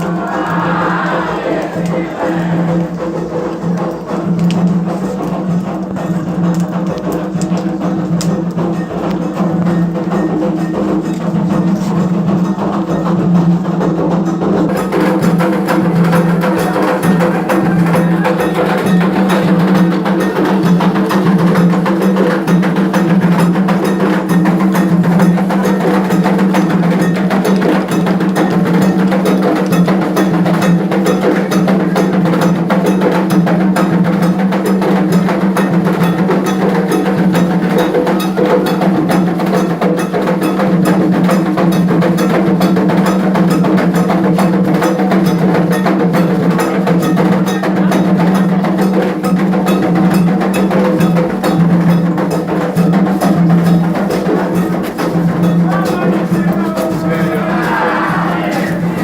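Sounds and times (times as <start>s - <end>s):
drums: 0.0s - 59.0s
struck bell rhythm: 7.8s - 59.0s.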